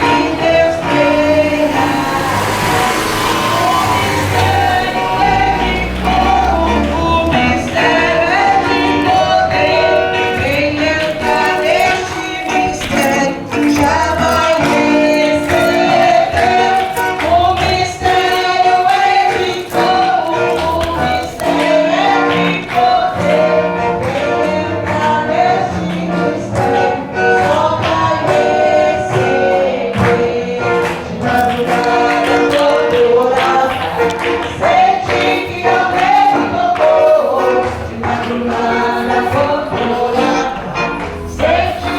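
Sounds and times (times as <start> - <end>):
instrumental accompaniment: 0.0 - 41.9
worship music with singing: 0.0 - 41.9.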